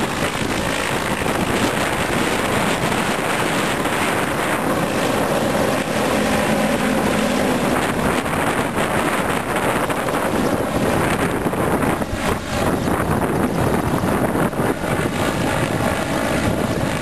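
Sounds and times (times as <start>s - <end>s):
loud engine noise: 0.0s - 17.0s
wind buffeting microphone: 0.0s - 17.0s.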